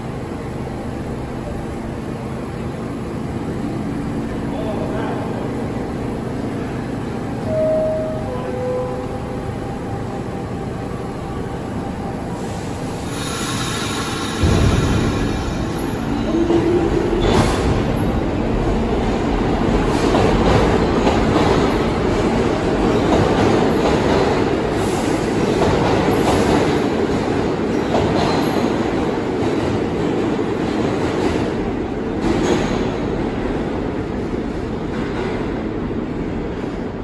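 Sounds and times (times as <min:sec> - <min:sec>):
second train arriving: 0:00.0 - 0:37.0
subway train wheels rumbling: 0:00.0 - 0:37.0.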